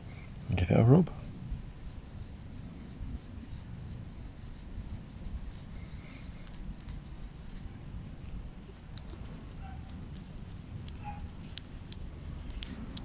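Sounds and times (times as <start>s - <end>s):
cloth rubbing on plastic: 0.0s - 13.0s.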